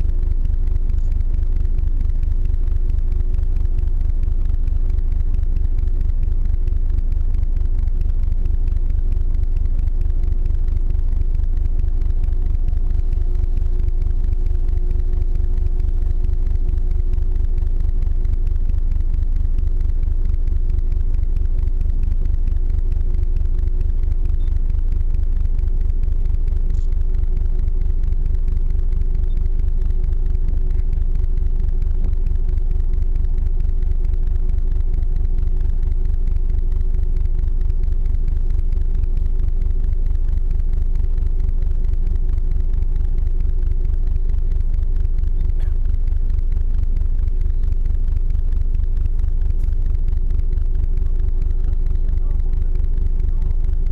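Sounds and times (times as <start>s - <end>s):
ship engine low rumble: 0.0s - 53.9s
steady hum: 0.0s - 53.9s.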